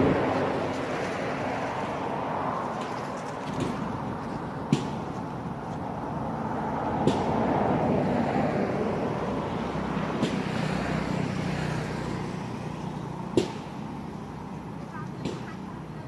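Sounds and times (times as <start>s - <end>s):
low engine hum: 0.0s - 16.0s
vehicle passing by: 0.0s - 16.0s.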